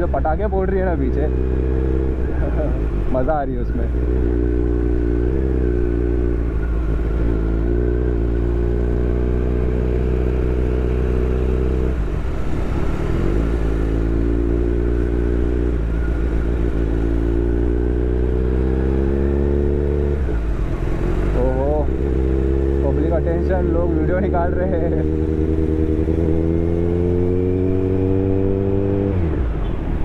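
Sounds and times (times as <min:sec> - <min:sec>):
motorcycle engine revving: 0:00.0 - 0:29.7.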